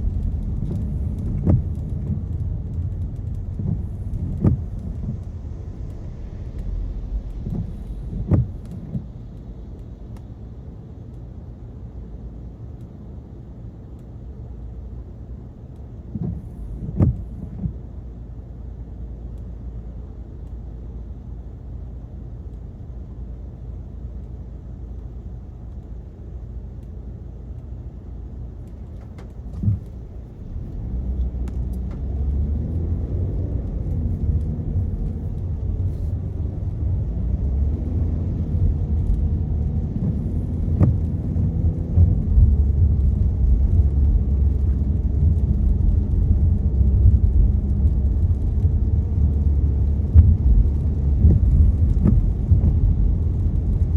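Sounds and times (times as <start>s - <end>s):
car tyre and engine rumble: 0.0s - 53.9s.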